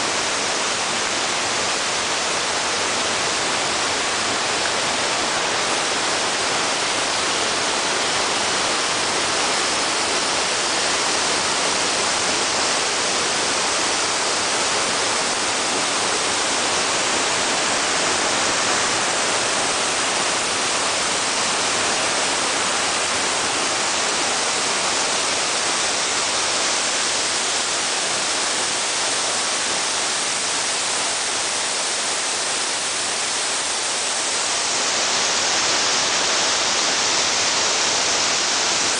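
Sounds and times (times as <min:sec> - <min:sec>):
creek water rushing over rocks: 0:00.0 - 0:38.9.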